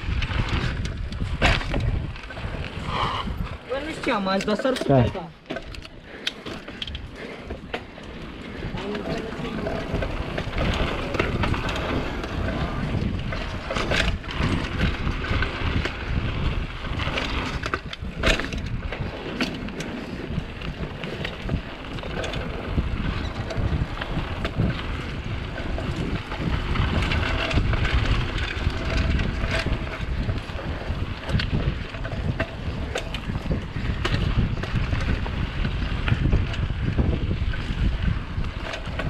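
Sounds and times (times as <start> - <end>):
bike knocks and rattles: 0.0 - 39.0
wind buffeting microphone: 0.0 - 39.0.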